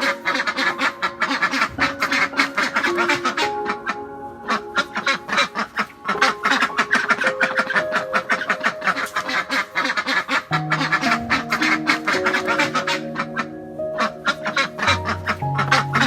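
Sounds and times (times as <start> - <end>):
background music with held notes: 0.0 - 16.0.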